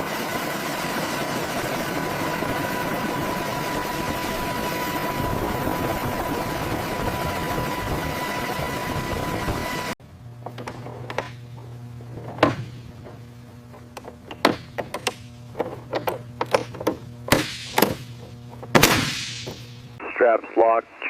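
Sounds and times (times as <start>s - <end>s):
helicopter turbine and rotor noise: 0.0s - 20.8s.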